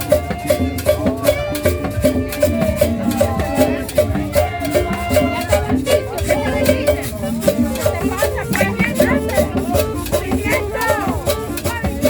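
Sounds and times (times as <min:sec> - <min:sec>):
upbeat tropical dance music: 0:00.0 - 0:12.0.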